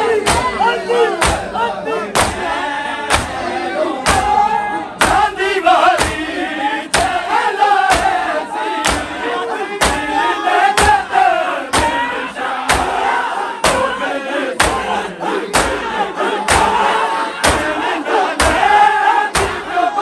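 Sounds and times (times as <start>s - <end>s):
group chanting together: 0.0s - 20.0s
rhythmic chest-beating thumps: 0.0s - 20.0s.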